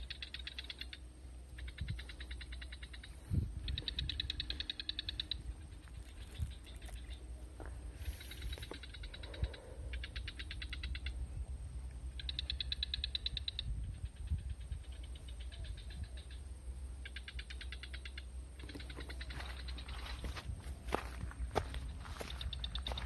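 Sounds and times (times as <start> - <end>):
small animal clicking calls: 0.0 - 20.4, 21.5 - 23.0
steady low hum: 0.0 - 23.0.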